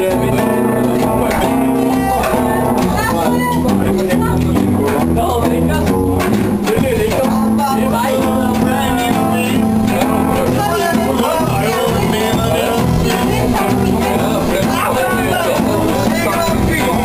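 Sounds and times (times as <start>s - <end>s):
guitar: 0.0s - 17.0s
rockabilly band playing: 0.0s - 17.0s.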